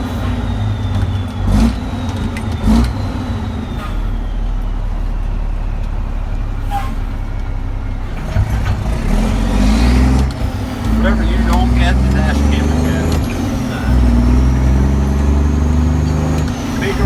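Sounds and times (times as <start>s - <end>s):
dump truck engine rumble: 0.0s - 17.0s.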